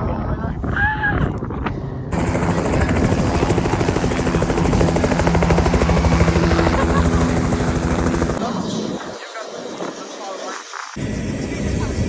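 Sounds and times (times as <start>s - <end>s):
helicopter engine drone: 2.1s - 12.0s
helicopter rotor beat: 2.1s - 12.0s.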